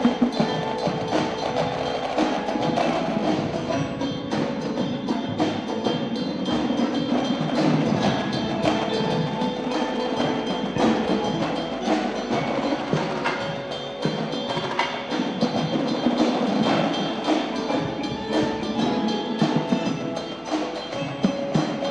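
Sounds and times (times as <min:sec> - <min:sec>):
marching drums playing: 0:00.0 - 0:21.9
marimbas ringing notes: 0:00.0 - 0:21.9.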